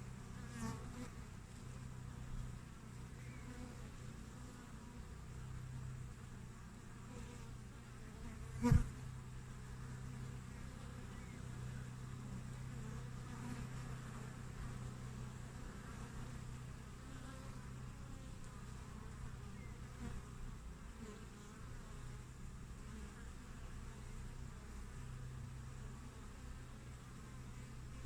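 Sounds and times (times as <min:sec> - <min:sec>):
honey bees humming: 0:00.0 - 0:28.0
single bees buzzing past: 0:00.0 - 0:28.0.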